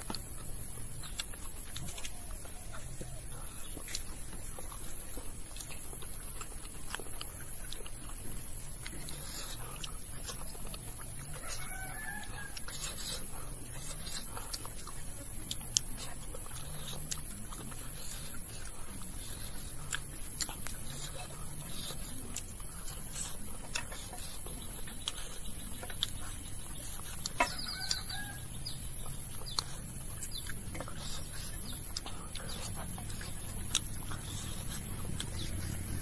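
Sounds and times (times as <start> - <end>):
chickens clucking: 0.0 - 36.0
soft eating noises: 0.0 - 36.0.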